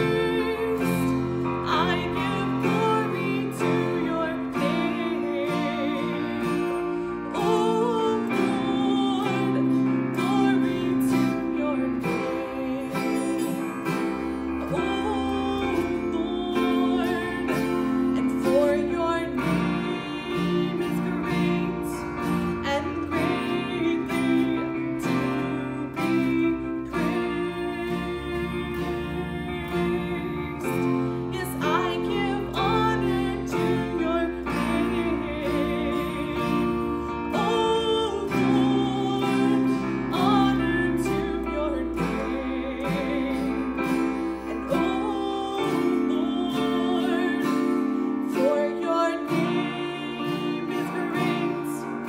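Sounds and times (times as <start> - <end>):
electronic keyboard: 0.0 - 52.0
strummed acoustic guitar: 0.0 - 52.0
woman singing: 0.0 - 52.0.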